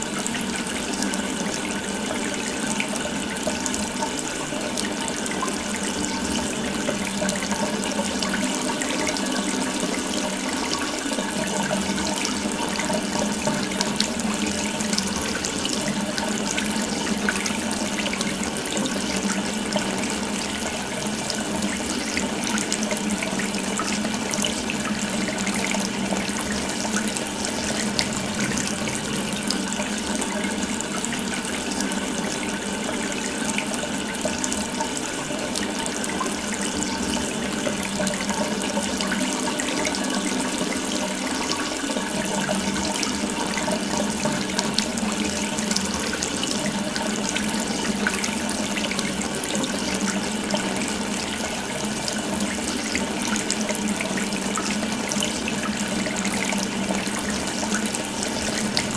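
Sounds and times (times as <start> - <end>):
water running from a tap: 0.0 - 58.9.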